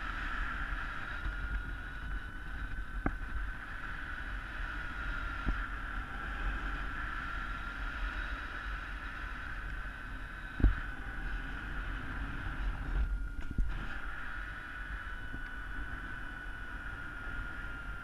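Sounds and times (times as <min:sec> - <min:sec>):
wind rumble over camera: 0:00.0 - 0:18.0.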